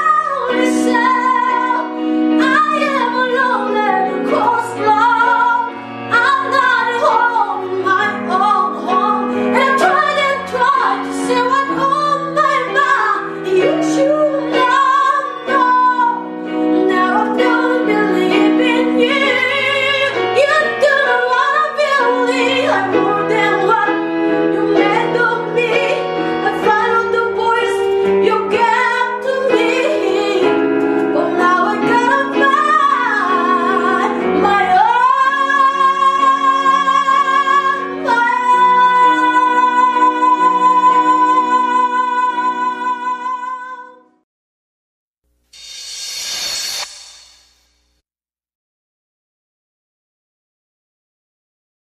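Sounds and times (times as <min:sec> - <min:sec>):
woman singing: 0:00.0 - 0:44.1.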